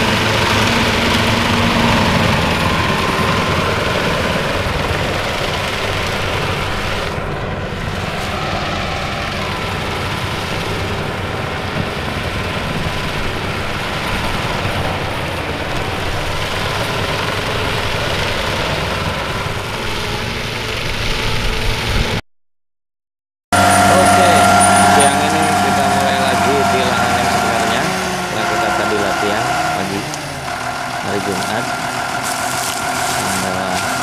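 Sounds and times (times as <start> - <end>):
rotor churning soil: 0.0 - 22.2, 23.6 - 34.0
tractor engine under load: 0.0 - 22.2, 23.5 - 34.0.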